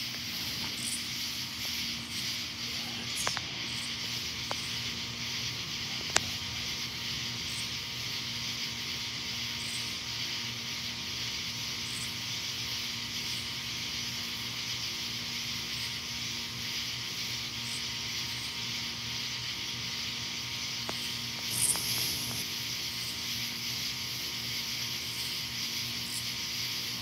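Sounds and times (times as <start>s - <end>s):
outdoor night hiss: 0.0s - 27.0s.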